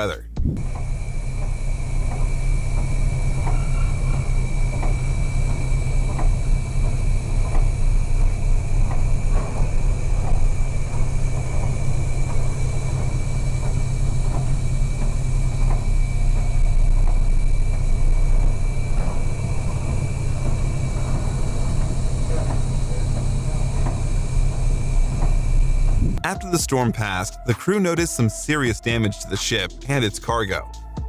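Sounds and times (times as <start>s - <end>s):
thin high whine: 0.0s - 27.1s
ship engines droning: 0.0s - 30.8s.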